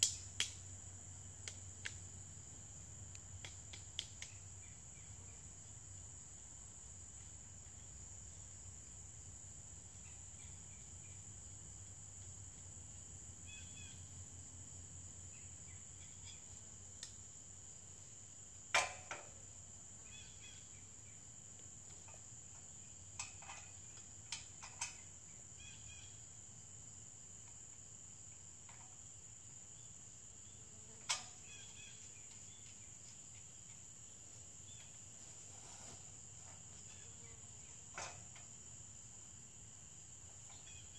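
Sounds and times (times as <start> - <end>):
crickets and insects chorus: 0.0 - 40.9.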